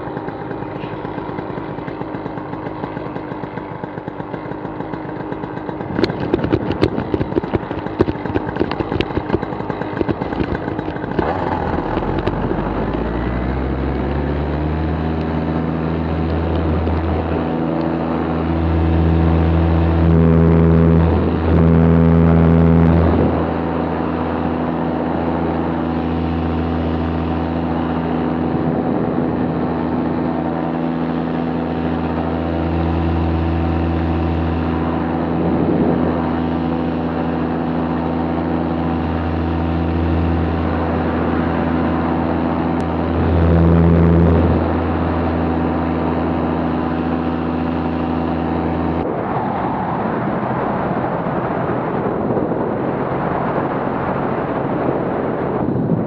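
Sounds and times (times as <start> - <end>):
paramotor engine and propeller: 0.0 - 56.0
rushing wind: 5.7 - 56.0.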